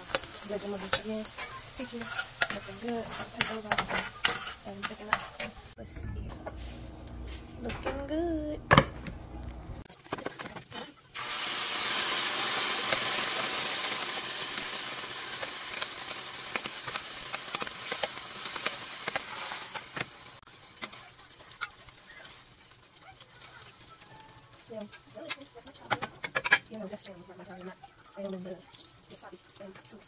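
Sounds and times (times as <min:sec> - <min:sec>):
fruit sizzling in a pan: 0:00.0 - 0:09.8, 0:10.8 - 0:30.0.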